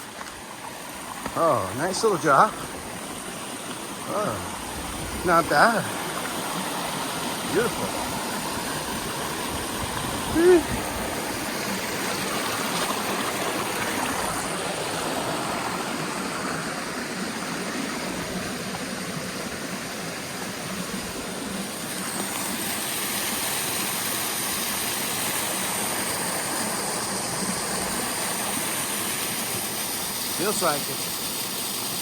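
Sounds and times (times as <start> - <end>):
stream water over waterfall: 0.0 - 32.0.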